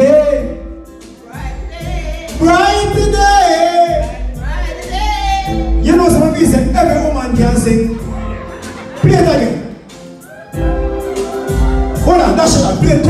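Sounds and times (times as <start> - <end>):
live reggae music: 0.0 - 13.0.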